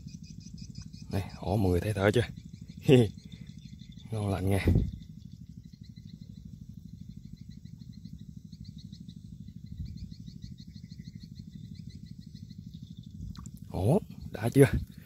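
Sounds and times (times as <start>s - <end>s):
insects chirping in trills: 0.0s - 15.0s
low fast-pulsing rumble: 0.0s - 15.0s.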